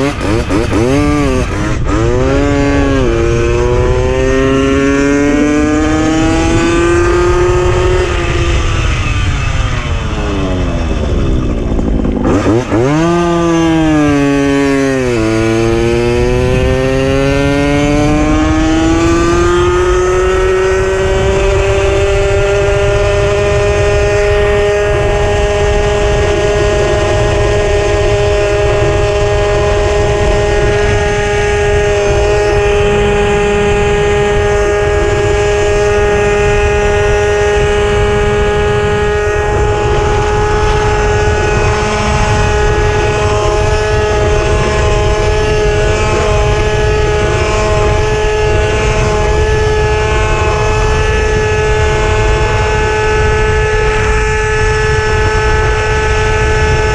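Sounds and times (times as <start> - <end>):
moped two-stroke engine revving: 0.0 - 56.9
wind rumble on microphone: 0.0 - 56.9.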